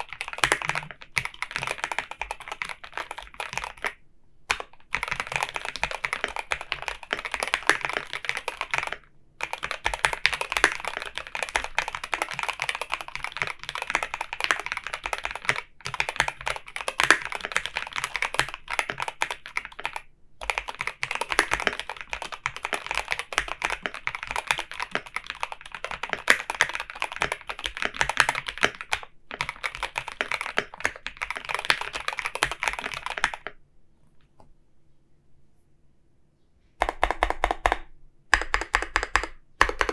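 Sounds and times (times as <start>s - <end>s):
mechanical keyboard typing: 0.0s - 33.6s, 36.8s - 39.9s.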